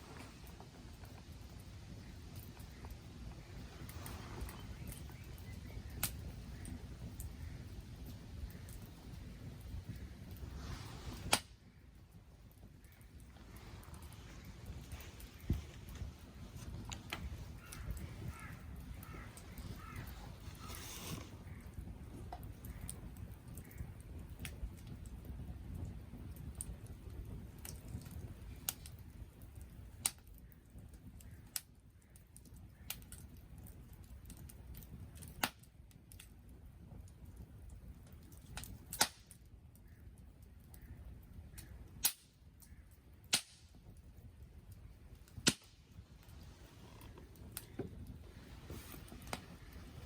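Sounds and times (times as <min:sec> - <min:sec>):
campfire crackling and popping: 0:00.0 - 0:50.0
low rush of fire: 0:00.0 - 0:50.0.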